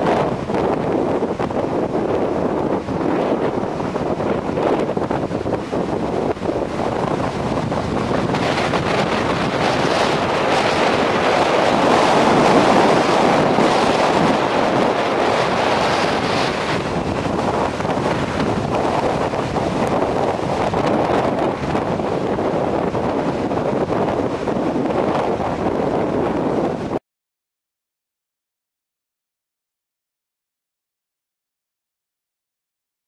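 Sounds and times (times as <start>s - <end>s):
storm surf breaking: 0.0s - 27.0s
wind buffeting microphone: 0.0s - 27.0s.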